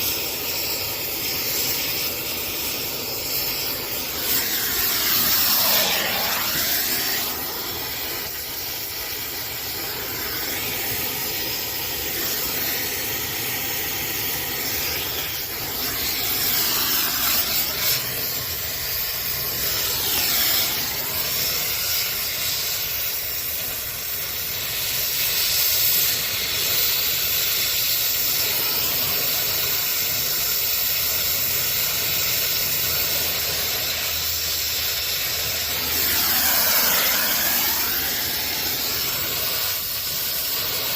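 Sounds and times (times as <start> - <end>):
torch flame hissing: 0.0 - 40.9.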